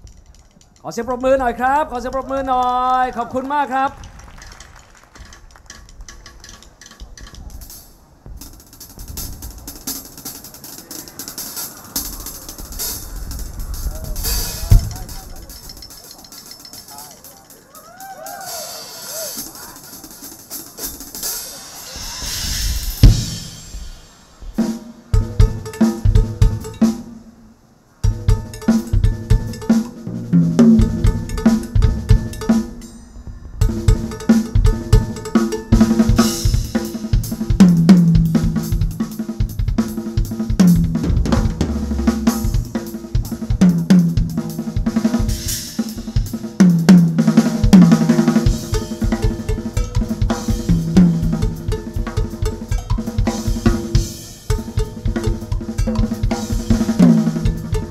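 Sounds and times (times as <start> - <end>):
drum kit played fast: 1.2 - 27.4, 28.0 - 57.9
cymbal crashes: 7.7 - 16.0, 18.6 - 57.9.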